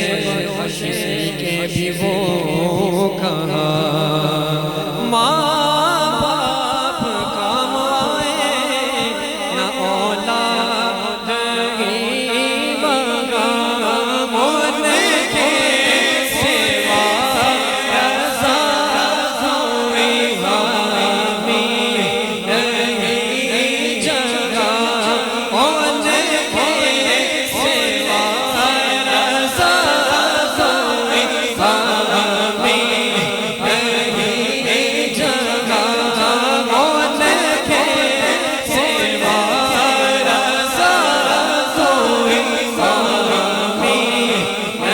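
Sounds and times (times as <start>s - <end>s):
voices chanting a cappella: 0.0s - 44.9s.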